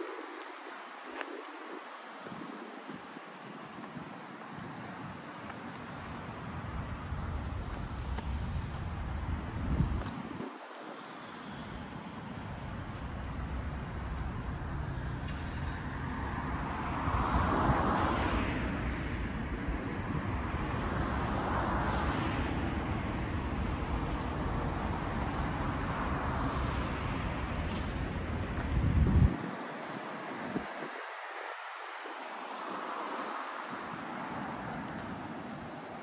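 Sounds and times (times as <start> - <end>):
cars passing close: 0.0 - 36.0
road traffic noise: 0.0 - 36.0.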